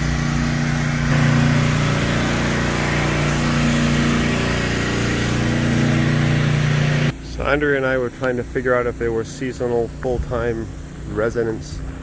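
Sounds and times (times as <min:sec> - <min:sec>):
machine droning hum: 0:00.0 - 0:12.0.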